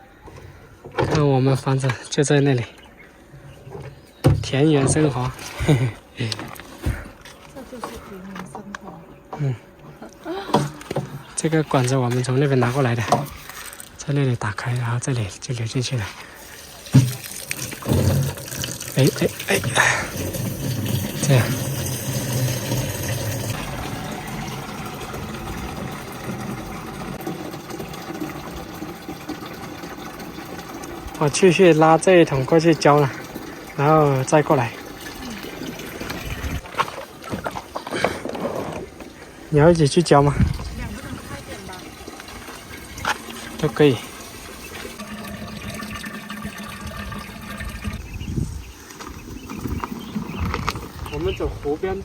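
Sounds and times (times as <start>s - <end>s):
water from hose filling bucket: 4.4s - 8.0s, 10.5s - 14.0s, 15.7s - 52.0s.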